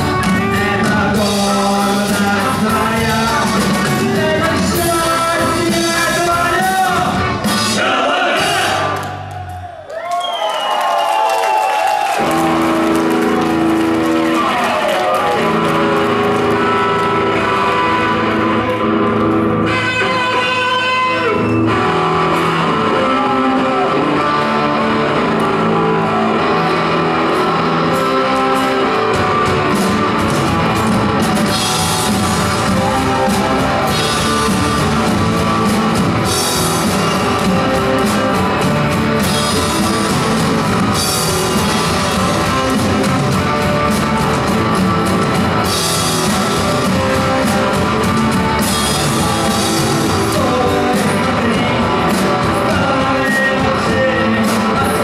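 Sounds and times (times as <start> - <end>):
electric guitar chords: 0.0 - 9.3, 12.2 - 55.0
drums: 0.0 - 55.0.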